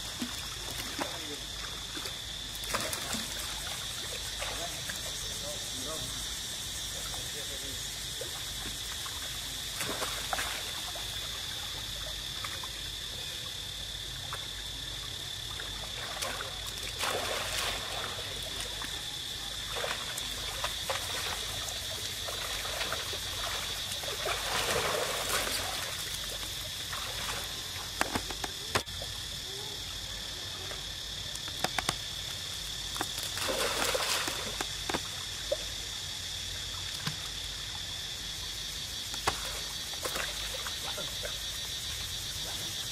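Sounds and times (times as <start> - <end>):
water splashing and trickling: 0.0 - 13.3, 14.0 - 29.5, 32.4 - 38.4, 39.0 - 42.8
high insect drone: 0.0 - 42.9.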